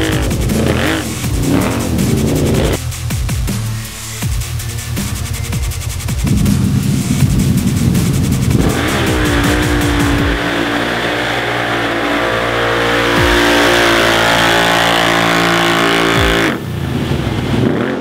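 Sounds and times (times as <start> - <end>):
engine running at high revs: 0.0 - 2.8, 5.0 - 18.0.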